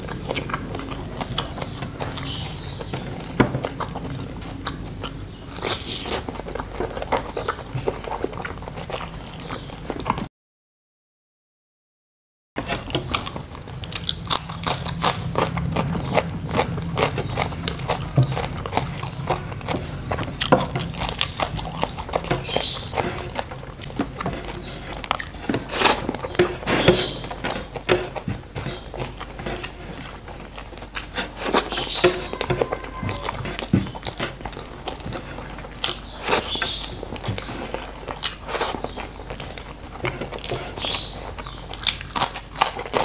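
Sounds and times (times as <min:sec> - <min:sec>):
man chewing food: 0:00.0 - 0:10.3, 0:12.6 - 0:43.0.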